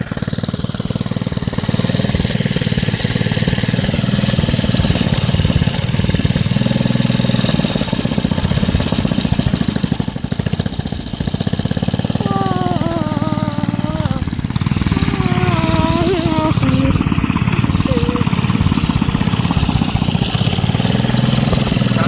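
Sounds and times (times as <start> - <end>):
minibike engine running: 0.0 - 22.0.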